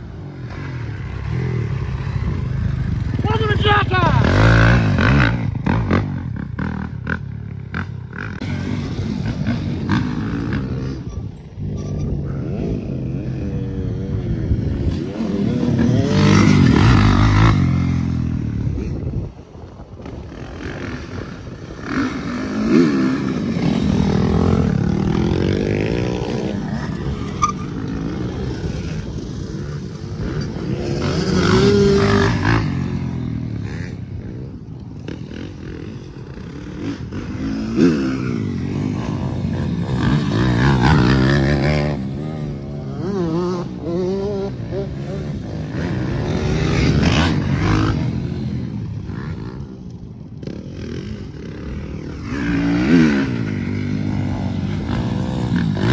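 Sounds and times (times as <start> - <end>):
motocross bike engine revving: 0.1 - 18.9, 20.5 - 34.3, 35.0 - 55.9.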